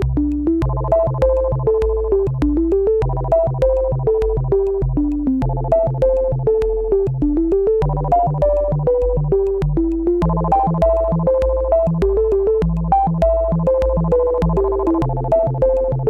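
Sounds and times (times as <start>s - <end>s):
electronic synth music: 0.0s - 16.0s.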